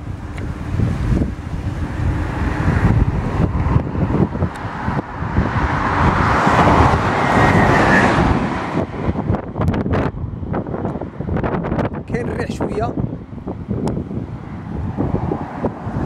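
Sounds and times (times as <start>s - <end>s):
vehicle tyre noise: 0.0s - 16.0s
wind buffeting microphone: 0.0s - 16.0s.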